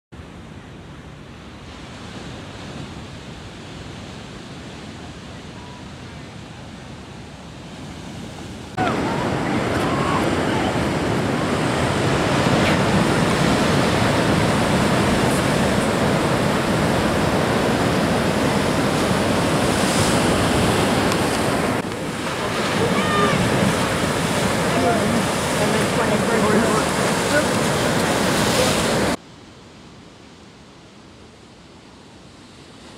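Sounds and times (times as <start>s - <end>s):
ocean waves breaking: 0.2s - 29.2s
wind noise on microphone: 0.3s - 32.9s.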